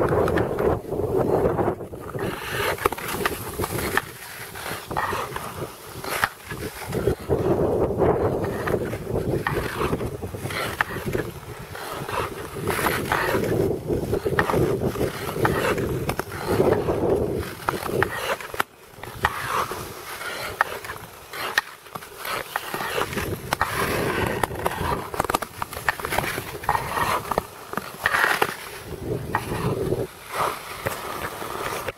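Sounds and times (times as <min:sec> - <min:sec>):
skate blades scraping on ice: 0:00.0 - 0:31.9.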